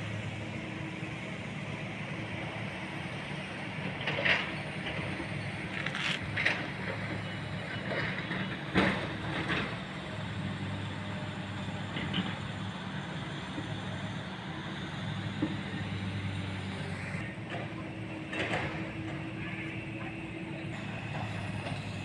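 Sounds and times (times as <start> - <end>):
construction machinery engine hum: 0.0 - 22.0.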